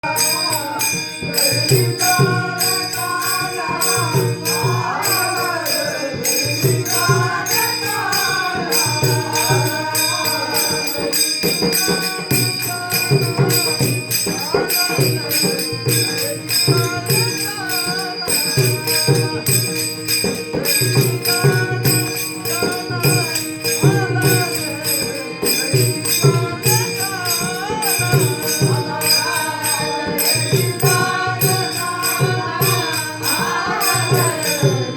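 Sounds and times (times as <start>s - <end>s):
person singing: 0.0s - 34.9s
small hand cymbals: 0.0s - 34.9s.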